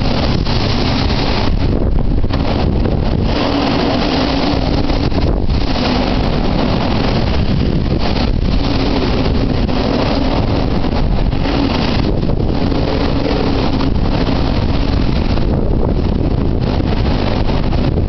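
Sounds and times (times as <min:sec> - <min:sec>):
low droning tone: 0:00.0 - 0:18.0
wind buffeting microphone: 0:00.0 - 0:18.0.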